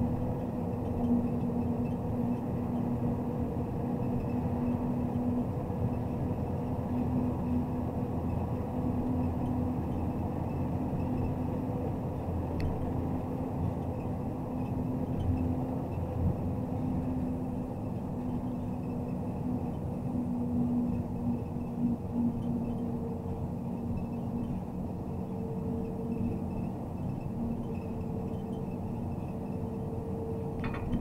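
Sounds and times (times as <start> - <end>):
constant low hum: 0.0 - 31.0
road noise: 0.0 - 31.0
truck diesel engine droning: 0.0 - 31.0.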